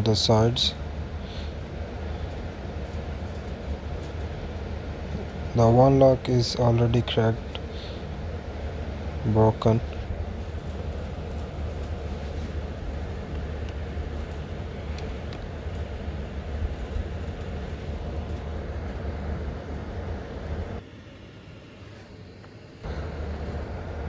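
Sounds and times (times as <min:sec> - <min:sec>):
low rumble: 0:00.7 - 0:20.8.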